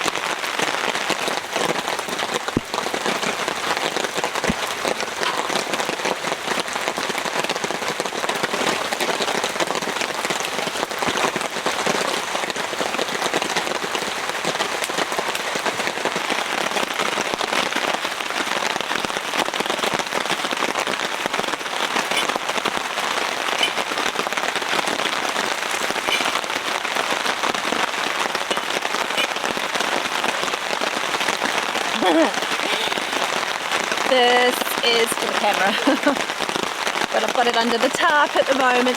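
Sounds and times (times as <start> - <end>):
heavy rain on a tarp: 0.0 - 38.9.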